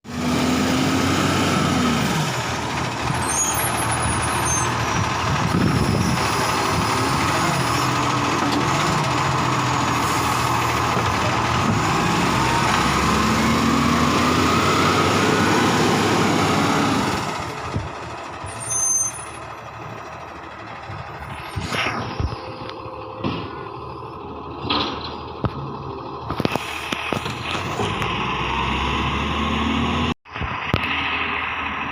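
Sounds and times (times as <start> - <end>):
garbage truck engine running: 0.1 - 31.9.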